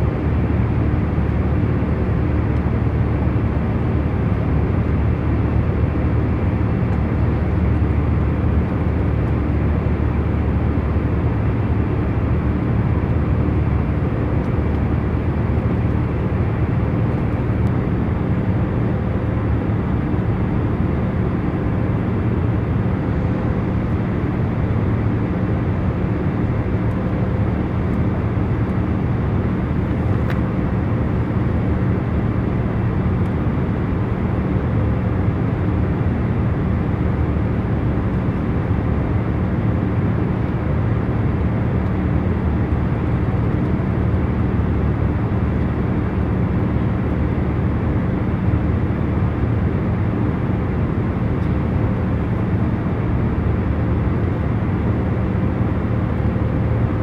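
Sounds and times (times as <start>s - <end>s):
airliner cabin engine hum: 0.0s - 57.0s.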